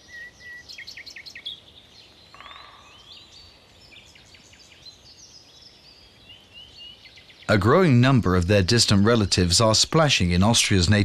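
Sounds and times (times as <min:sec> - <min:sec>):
small birds chirping: 0:00.0 - 0:11.0
soft background hiss: 0:00.0 - 0:11.0.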